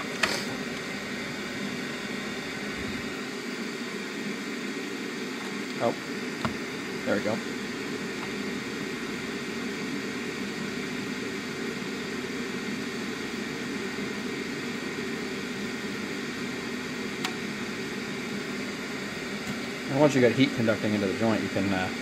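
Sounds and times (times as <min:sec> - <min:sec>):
extractor fan rushing airflow: 0:00.0 - 0:22.0.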